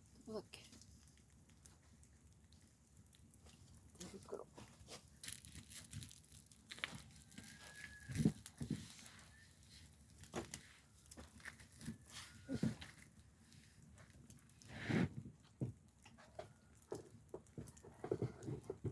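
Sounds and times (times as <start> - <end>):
crinkling and rustling: 0.0 - 18.9.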